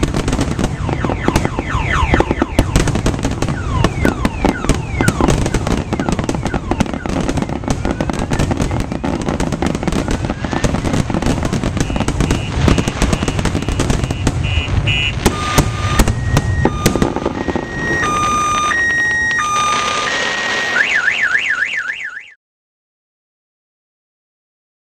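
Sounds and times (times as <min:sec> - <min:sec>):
fireworks cracking and booming: 0:00.0 - 0:21.8
car alarm: 0:00.4 - 0:10.6, 0:11.7 - 0:22.4.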